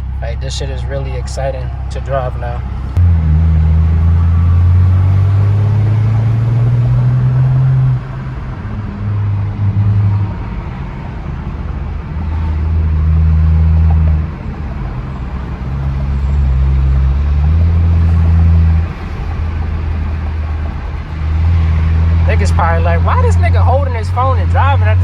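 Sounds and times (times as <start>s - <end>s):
car exhaust drone: 0.0s - 25.0s.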